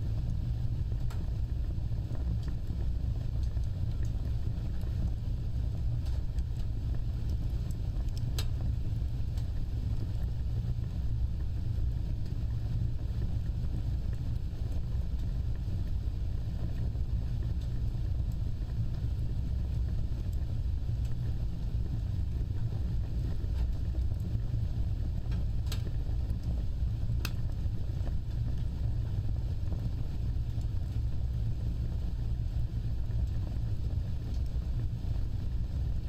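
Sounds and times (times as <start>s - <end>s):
wood fire roaring: 0.0s - 36.0s
fire crackling: 0.1s - 36.0s.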